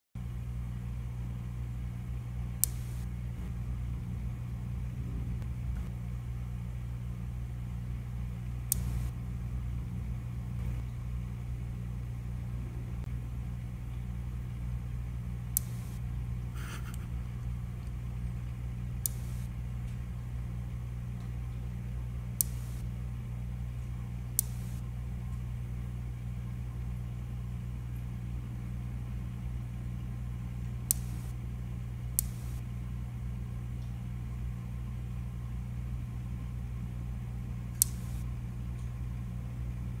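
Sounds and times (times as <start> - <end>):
aquarium equipment hum: 0.2 - 40.0.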